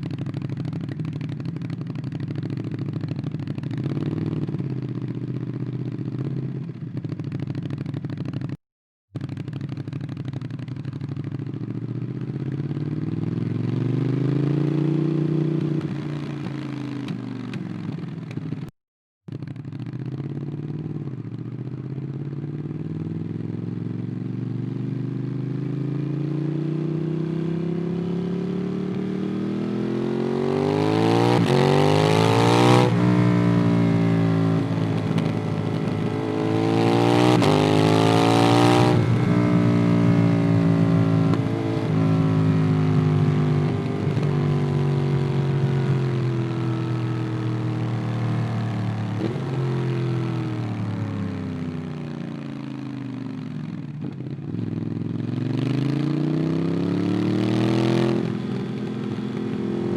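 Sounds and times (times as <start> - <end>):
motorcycle engine revving: 0.0 - 8.5, 9.2 - 18.7, 19.3 - 59.9.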